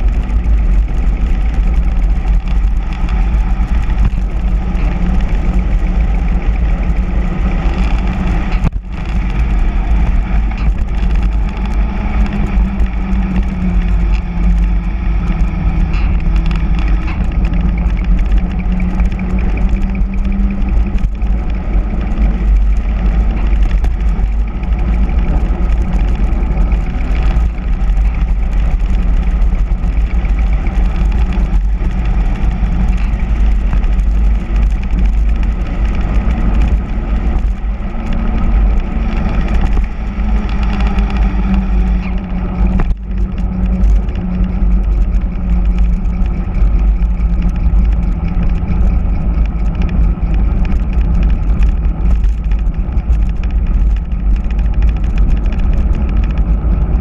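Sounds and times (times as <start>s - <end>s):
tyres humming on asphalt: 0.0s - 57.0s
wind buffeting microphone: 0.0s - 57.0s.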